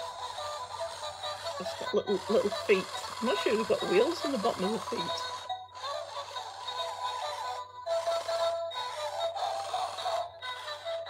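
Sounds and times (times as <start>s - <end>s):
toy beeping electronic tune: 0.0s - 11.0s.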